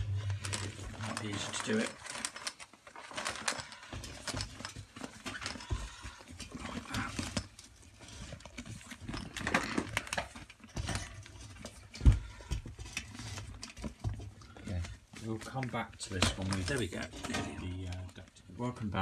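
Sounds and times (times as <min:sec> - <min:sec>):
plastic ducting rustling: 0:00.0 - 0:19.0.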